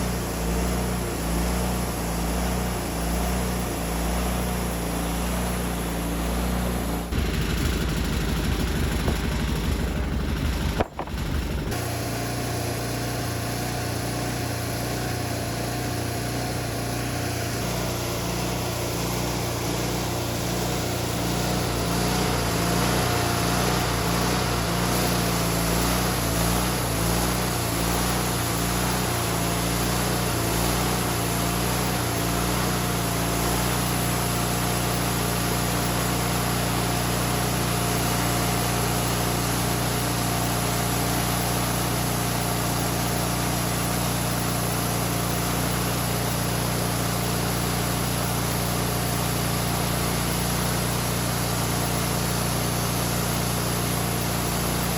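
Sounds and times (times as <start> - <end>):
band sawmill engine running: 0.0 - 54.9.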